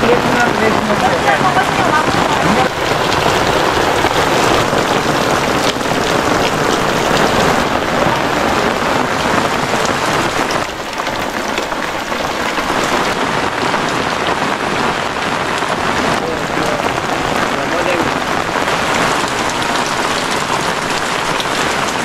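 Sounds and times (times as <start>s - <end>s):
raindrops ticking: 0.0s - 22.0s
steady rain: 0.0s - 22.0s.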